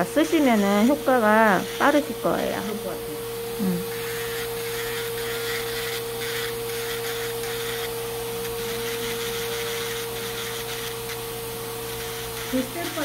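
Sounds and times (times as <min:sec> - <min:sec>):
electric nail drill grinding: 0:00.0 - 0:13.0.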